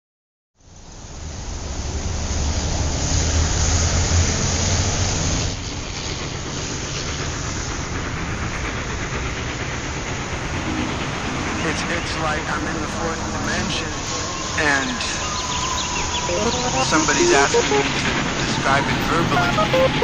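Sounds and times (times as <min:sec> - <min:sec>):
rushing rumbling noise: 0:01.4 - 0:20.0.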